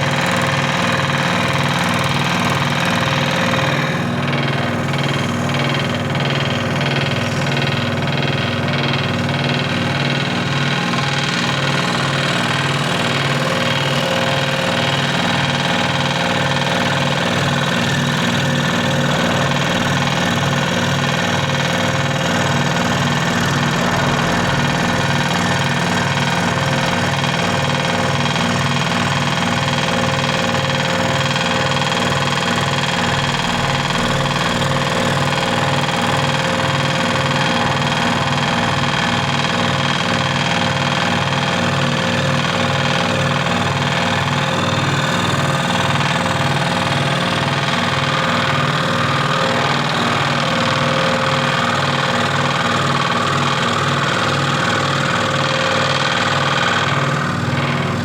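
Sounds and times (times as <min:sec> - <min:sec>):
scroll saw running: 0:00.0 - 0:58.0.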